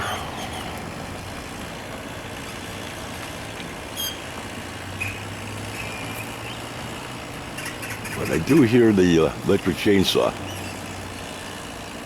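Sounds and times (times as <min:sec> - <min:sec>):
distant motor drone: 0:00.0 - 0:12.0.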